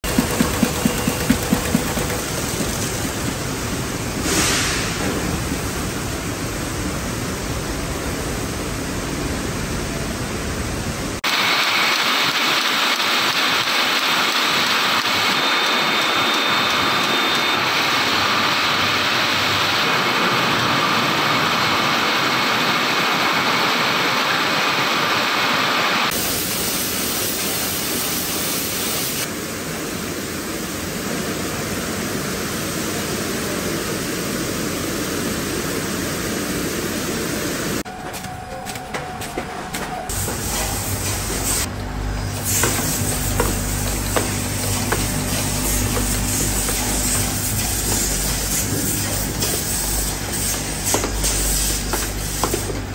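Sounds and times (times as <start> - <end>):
machinery and conveyors hissing: 0.0 - 52.9.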